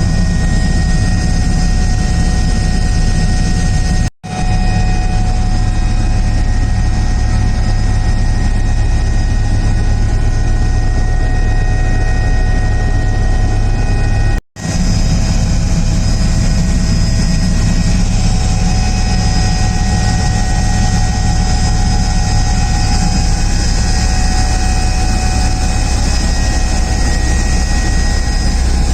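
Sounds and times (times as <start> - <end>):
helicopter engines and rotors droning: 0.0 - 28.9.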